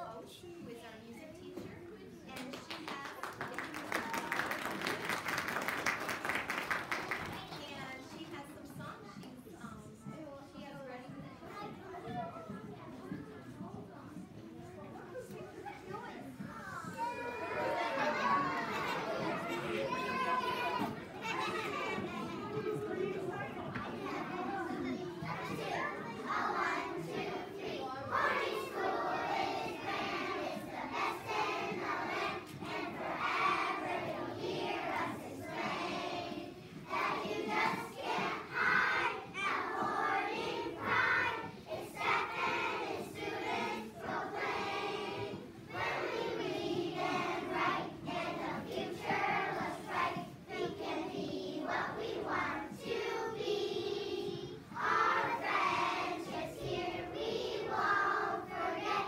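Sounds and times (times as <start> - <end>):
children's choir singing: 2.6 - 8.3, 15.2 - 59.0.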